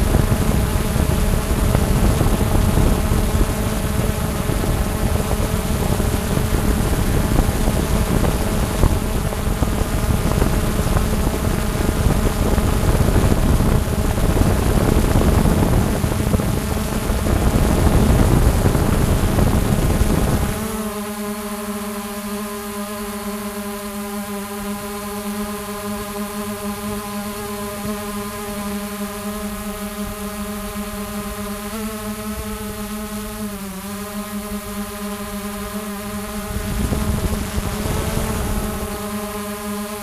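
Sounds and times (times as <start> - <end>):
drone propellers buzzing: 0.0 - 40.0.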